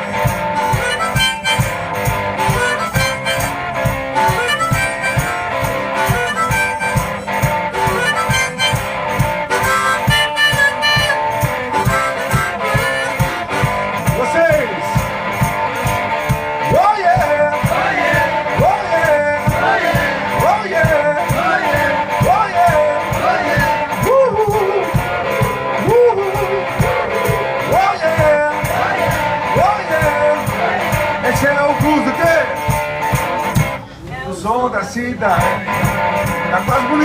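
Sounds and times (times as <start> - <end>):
harmonica playing blues: 0.0 - 33.9
strummed guitar: 0.0 - 34.2, 35.0 - 37.0.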